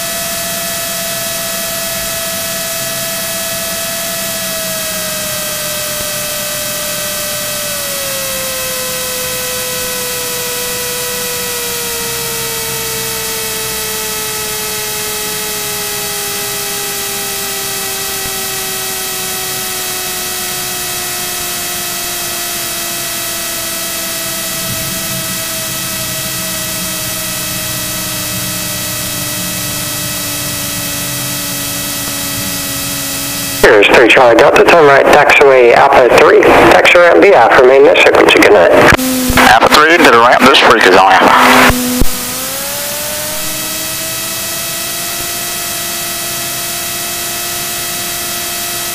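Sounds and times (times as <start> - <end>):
airplane engine and propeller drone: 0.0 - 48.9
electrical hiss and whine: 0.0 - 48.9.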